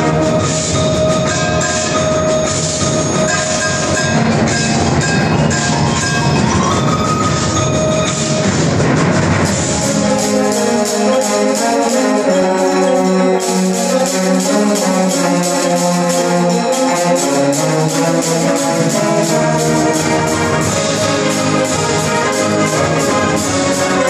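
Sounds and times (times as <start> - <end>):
concert band playing fast: 0.0 - 24.0
quick percussion beat: 0.0 - 24.0.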